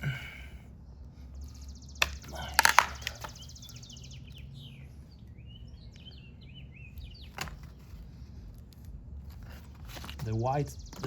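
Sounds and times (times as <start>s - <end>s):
low steady background hum: 0.0s - 11.0s
small bird chirping: 0.8s - 11.0s.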